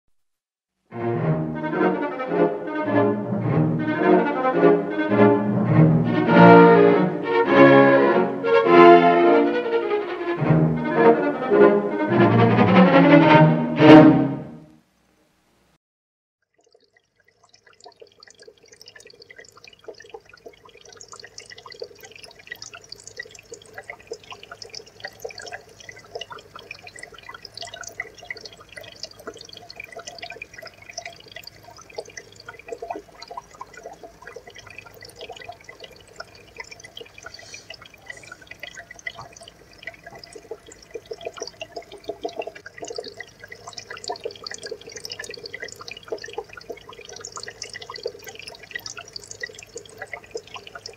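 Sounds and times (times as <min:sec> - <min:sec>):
aquarium water trickling and bubbling: 0:01.3 - 0:09.5, 0:16.4 - 0:50.9.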